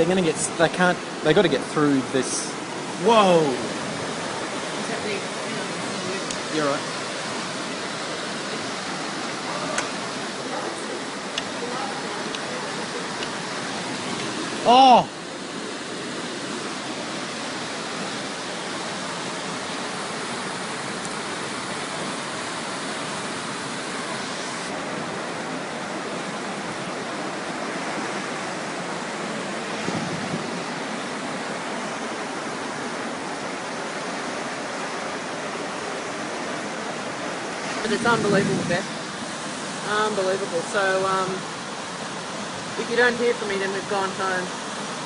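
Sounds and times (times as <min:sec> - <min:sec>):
floodwater rushing: 0:00.0 - 0:45.0.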